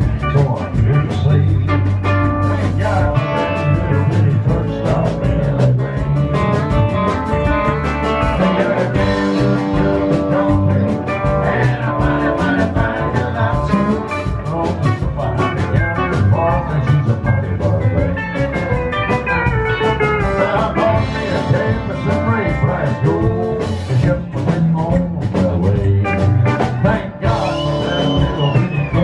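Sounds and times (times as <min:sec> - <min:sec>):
live country band playing: 0:00.0 - 0:29.0.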